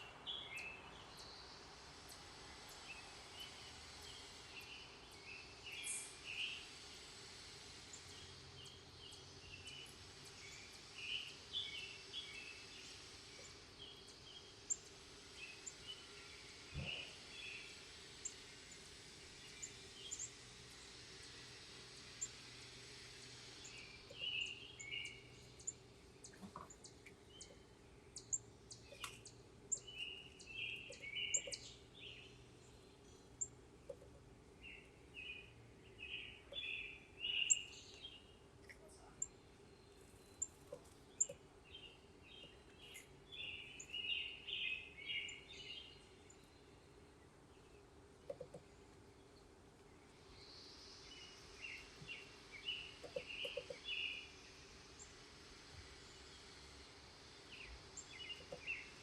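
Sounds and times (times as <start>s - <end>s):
faint hiss: 0.0s - 59.0s
songbirds chirping: 0.0s - 59.0s.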